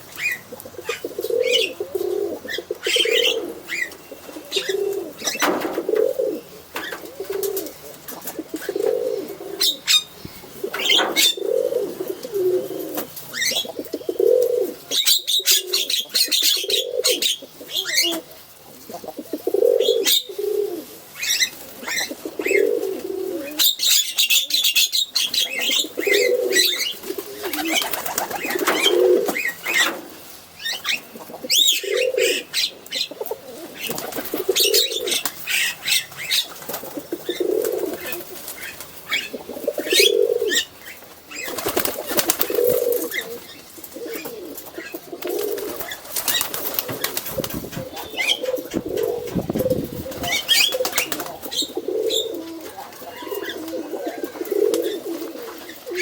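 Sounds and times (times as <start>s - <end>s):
pigeon cooing: 0.0s - 56.0s.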